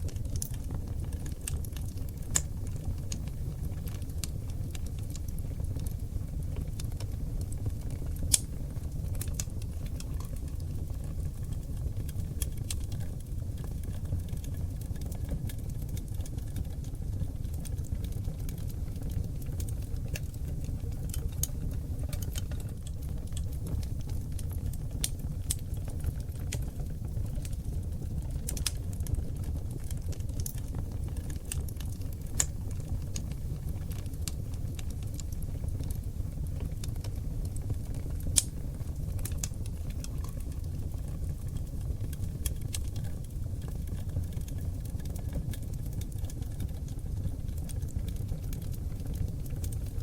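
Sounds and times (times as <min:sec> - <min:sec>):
fire crackles and pops: 0:00.0 - 0:50.0
fire flames rumbling: 0:00.0 - 0:50.0.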